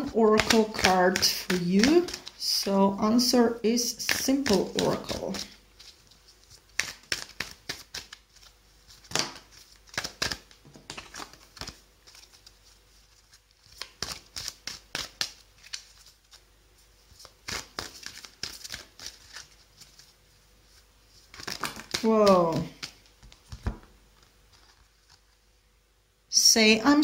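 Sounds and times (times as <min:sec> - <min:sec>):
cards being shuffled: 0:00.0 - 0:16.4, 0:17.0 - 0:25.4.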